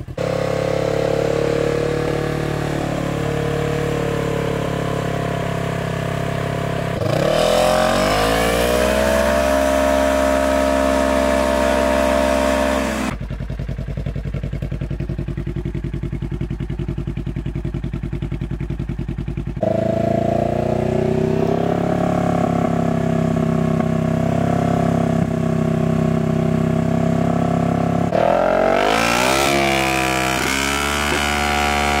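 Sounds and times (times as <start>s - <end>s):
engine revving through muffler: 0.0s - 13.2s, 19.6s - 32.0s.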